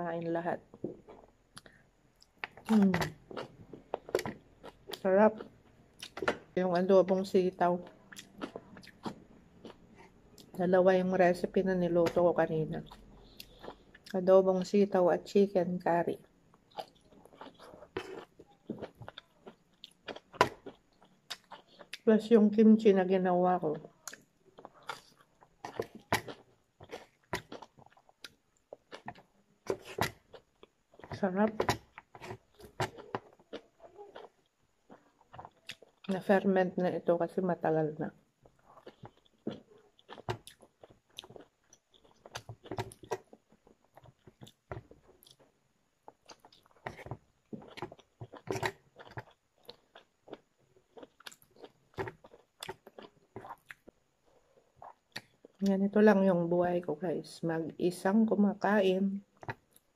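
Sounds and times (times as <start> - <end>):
person chewing food: 0.7 - 10.6, 11.9 - 14.2, 16.2 - 22.1, 23.8 - 36.2, 38.3 - 55.7, 59.3 - 59.9.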